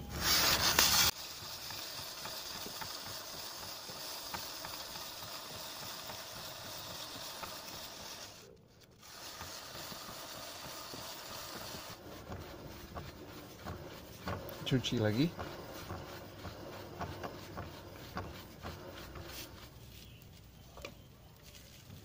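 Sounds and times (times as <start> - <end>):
sandpaper rubbing on metal disc: 0.0 - 20.6.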